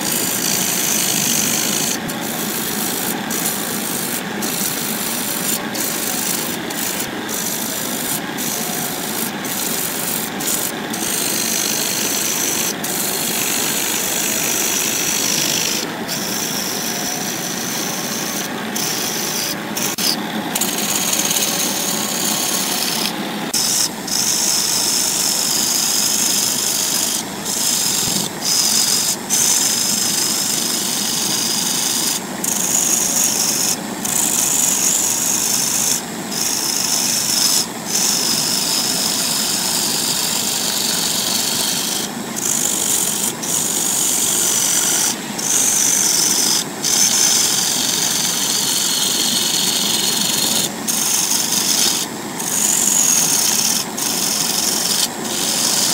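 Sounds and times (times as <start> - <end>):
turning tool scraping wood: 0.0 - 55.9
wood lathe running: 0.0 - 55.9.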